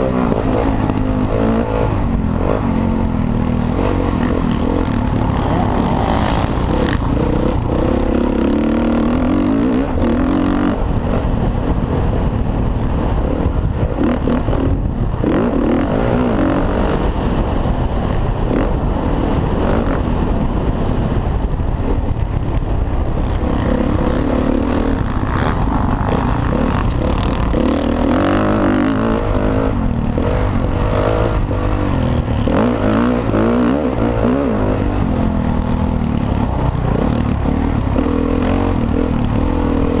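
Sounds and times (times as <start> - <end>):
dirt bike engine revving: 0.0 - 12.0, 12.6 - 21.2, 21.8 - 40.0.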